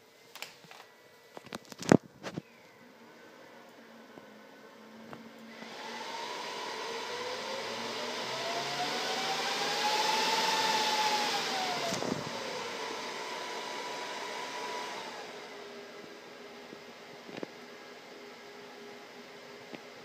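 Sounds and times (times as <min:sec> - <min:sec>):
server cooling fans whining: 0:00.0 - 0:20.0.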